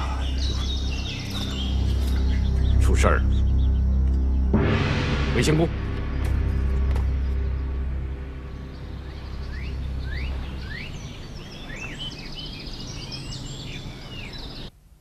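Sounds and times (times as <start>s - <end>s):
bird trill: 0.0s - 4.6s, 5.3s - 14.7s
small birds chirping: 0.0s - 4.6s, 5.2s - 14.8s.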